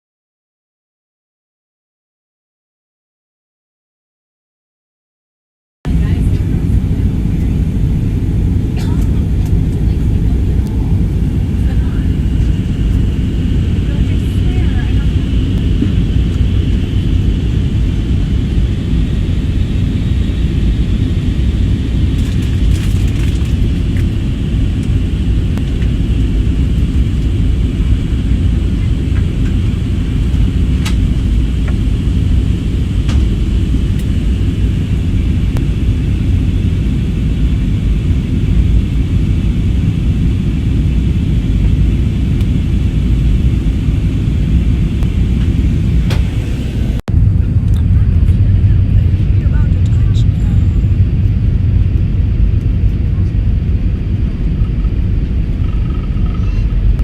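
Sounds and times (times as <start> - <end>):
airliner cabin engine rumble: 5.9 - 57.0.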